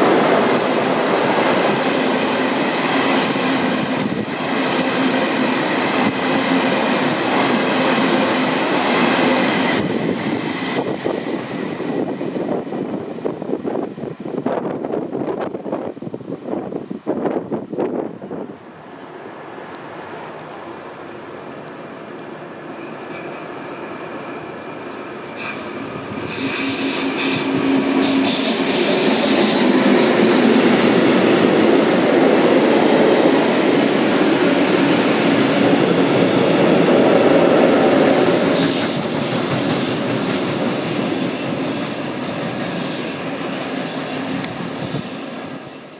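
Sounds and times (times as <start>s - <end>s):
freight train passing on rails: 0.0s - 45.9s.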